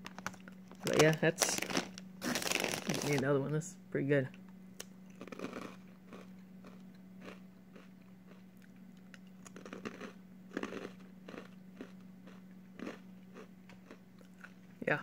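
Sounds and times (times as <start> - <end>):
crunchy snack being chewed: 0.2 - 3.2, 5.1 - 14.6.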